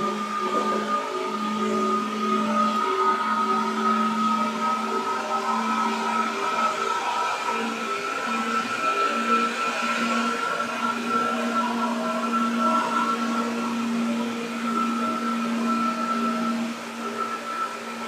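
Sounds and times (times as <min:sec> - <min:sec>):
traction motor whine: 0:00.0 - 0:18.0.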